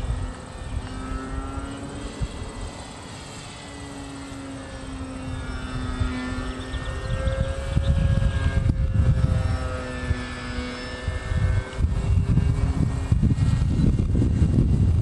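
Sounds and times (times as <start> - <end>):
propeller plane engine droning: 0.0 - 15.0
wind buffeting microphone: 0.0 - 15.0.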